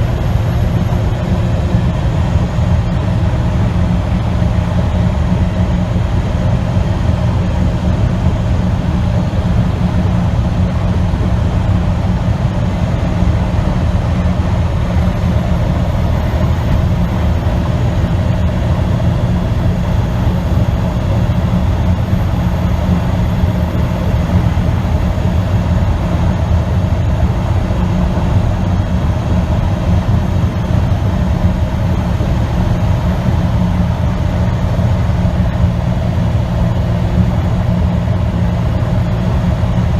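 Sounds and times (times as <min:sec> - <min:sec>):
truck engine drone: 0:00.0 - 0:39.9.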